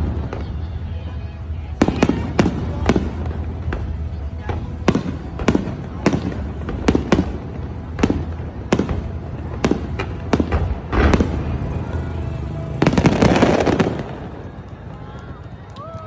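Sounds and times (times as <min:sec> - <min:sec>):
fireworks bangs: 0:00.0 - 0:15.9
fireworks crackling: 0:00.0 - 0:16.0.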